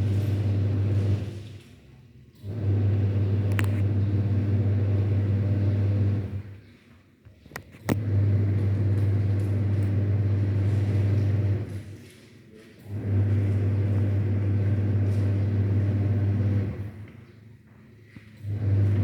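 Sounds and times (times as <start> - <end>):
washing machine motor hum: 0.0 - 6.7, 7.9 - 12.0, 12.8 - 17.3, 18.4 - 19.0.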